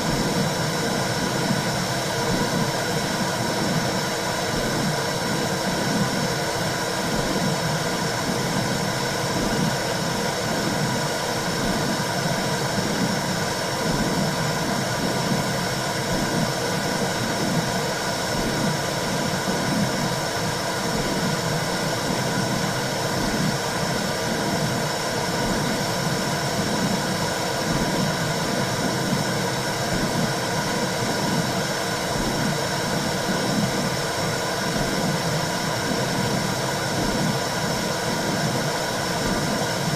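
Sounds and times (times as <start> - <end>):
low rhythmic heartbeat throbbing: 0.0 - 39.9.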